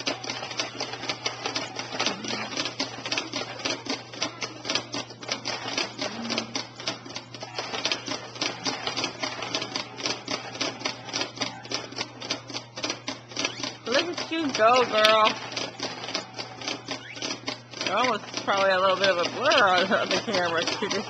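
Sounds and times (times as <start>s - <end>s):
baby jumper rattling and clicking: 0.0s - 21.0s.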